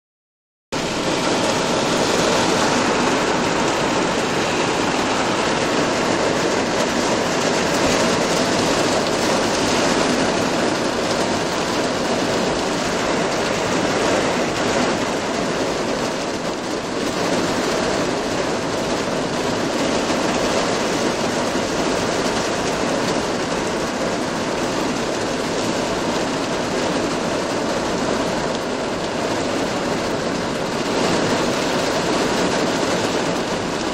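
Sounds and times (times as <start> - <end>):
heavy rain pouring: 0.7 - 33.9.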